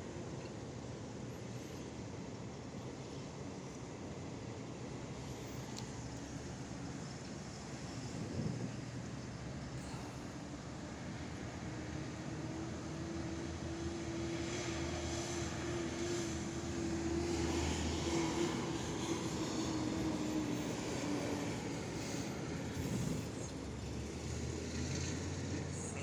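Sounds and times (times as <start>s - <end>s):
engine drone passing by: 4.7s - 26.0s.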